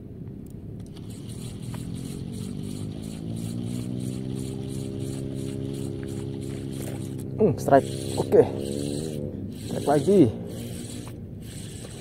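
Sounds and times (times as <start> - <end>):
motor engine humming: 0.8 - 12.0.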